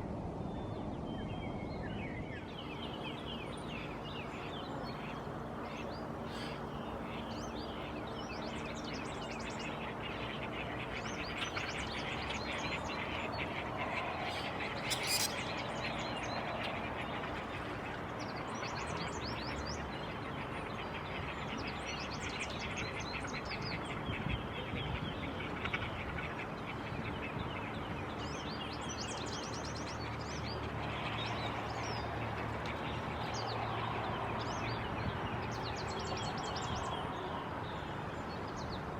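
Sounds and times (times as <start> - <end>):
birds chirping: 2.2 - 38.9.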